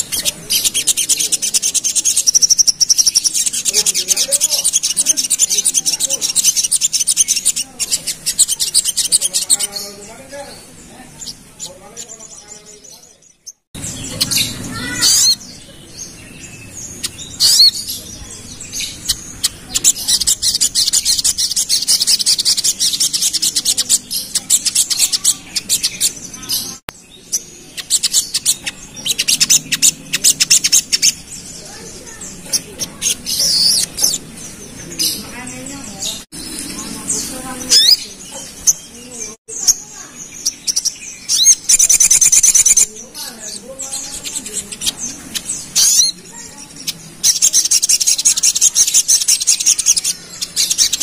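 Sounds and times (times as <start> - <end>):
bird chattering calls: 0.0 - 51.0.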